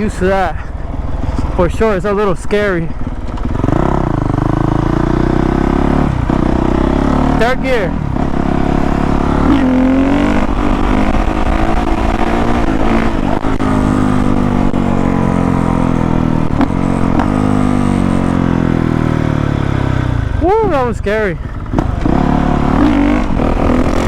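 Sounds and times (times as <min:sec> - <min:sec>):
motorcycle engine pulling hard: 0:00.0 - 0:24.0.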